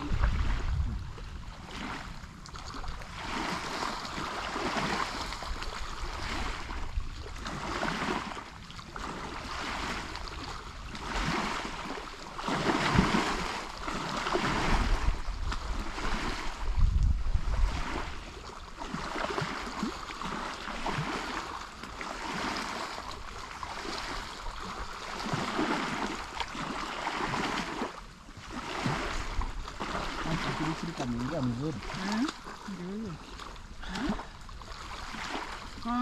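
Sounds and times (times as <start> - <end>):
water lapping at shore: 0.0 - 36.0
wind rumbling on microphone: 0.0 - 36.0.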